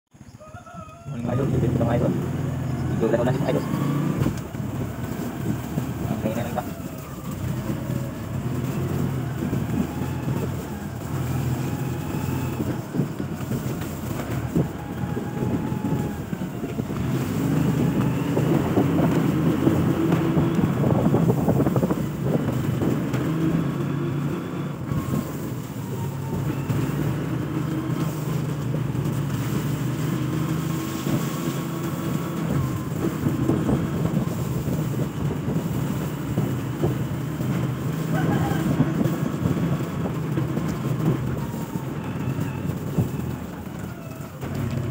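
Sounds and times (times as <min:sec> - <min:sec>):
motorcycle engine revving: 0:01.1 - 0:44.9.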